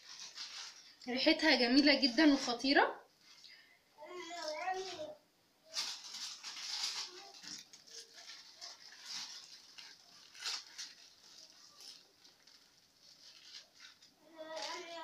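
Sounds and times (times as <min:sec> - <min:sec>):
aluminium foil crinkling and tearing: 0:00.0 - 0:03.5, 0:04.2 - 0:05.1, 0:05.7 - 0:15.0.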